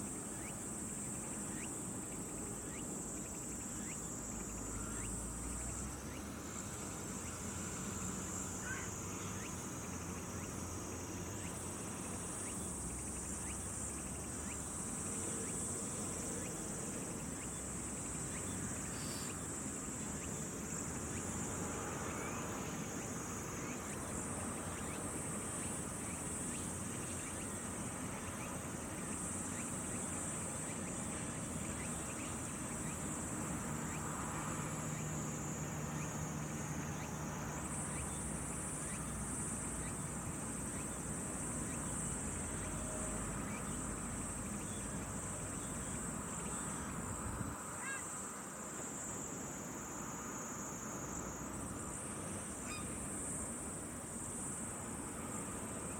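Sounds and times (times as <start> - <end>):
insect chorus trilling: 0.0 - 55.9
low rumble of outdoor ambience: 0.0 - 55.9.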